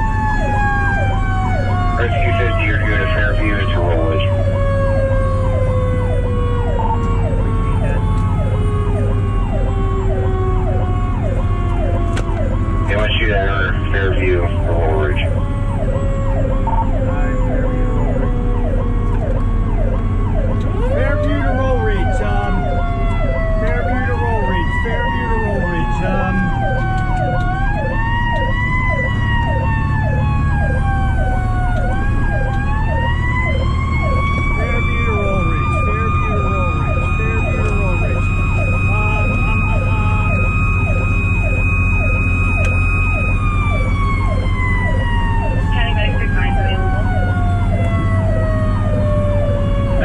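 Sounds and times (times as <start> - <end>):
electronic siren yelping: 0.0 - 50.0
mechanical siren winding down: 0.0 - 50.0
truck engine droning: 0.0 - 50.0.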